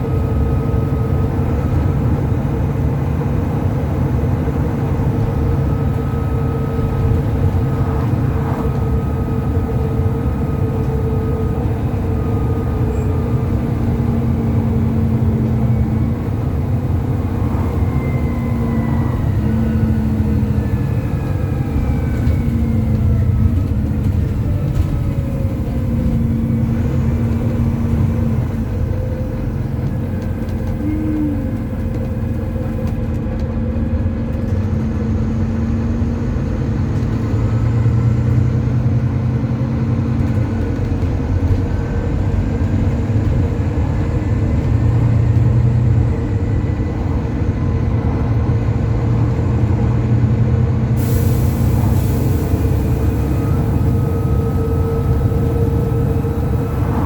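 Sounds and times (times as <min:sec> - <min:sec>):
bus diesel engine rumble: 0:00.0 - 0:57.0
drivetrain whine: 0:00.0 - 0:57.0.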